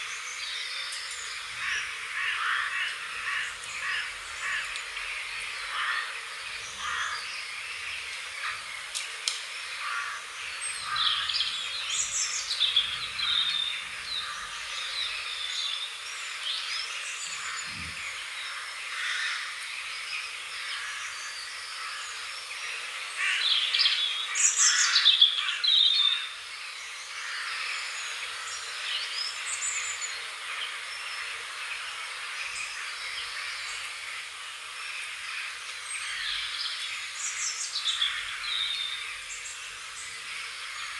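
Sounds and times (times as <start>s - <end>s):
steady background hiss: 0.0s - 40.9s
wild birds chirping and singing: 0.0s - 40.9s.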